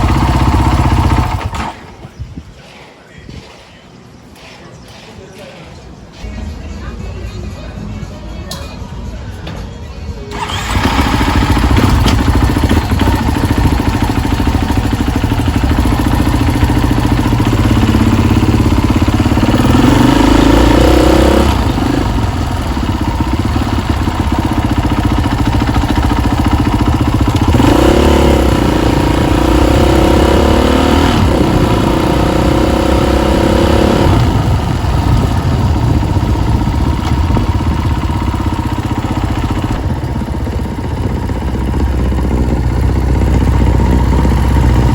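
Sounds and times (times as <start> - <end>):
motorcycle engine revving: 0.0 - 2.1, 10.3 - 44.9.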